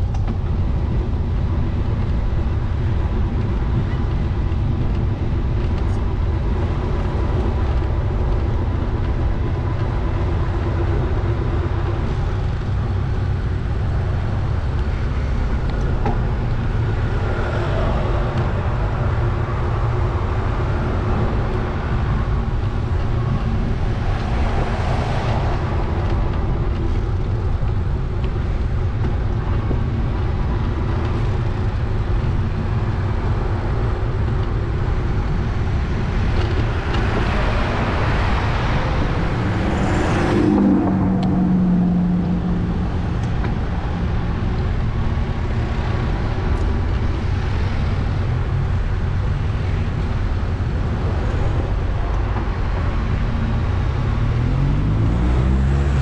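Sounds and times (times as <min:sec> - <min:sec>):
wind buffeting microphone: 0:00.0 - 0:55.8.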